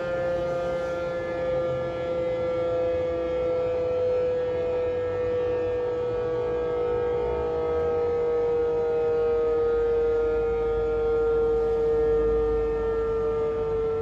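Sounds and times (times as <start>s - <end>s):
siren wailing: 0.0s - 14.0s.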